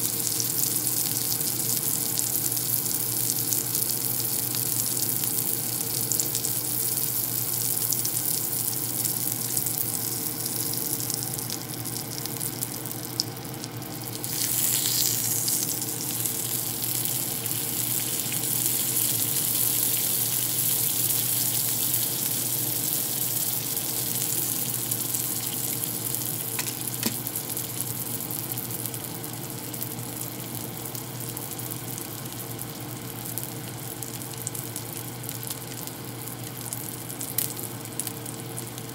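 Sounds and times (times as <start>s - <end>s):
meat sizzling in a frying pan: 0.0s - 38.9s.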